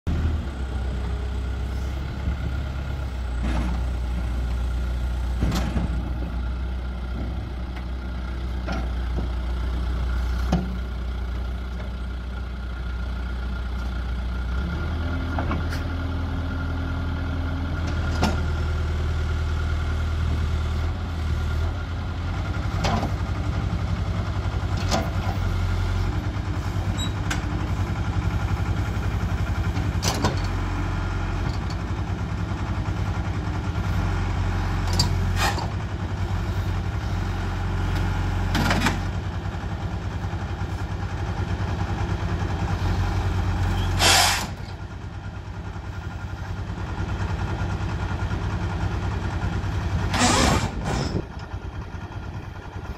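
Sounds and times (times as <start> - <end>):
diesel engine under load: 0.1 - 52.9.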